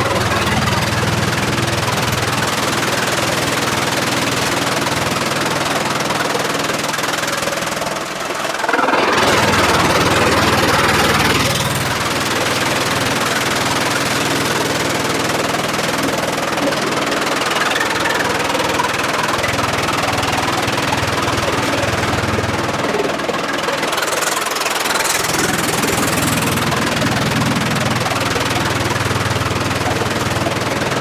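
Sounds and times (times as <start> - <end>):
sawmill machinery humming: 0.0 - 31.0.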